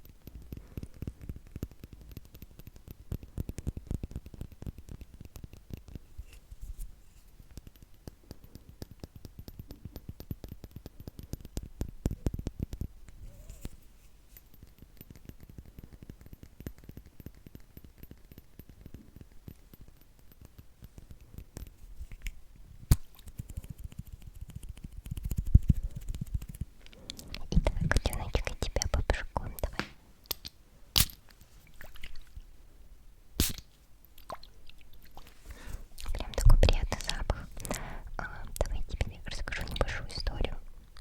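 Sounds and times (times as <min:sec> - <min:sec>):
soft crackling and scratching: 0:00.0 - 0:30.5, 0:33.6 - 0:41.0.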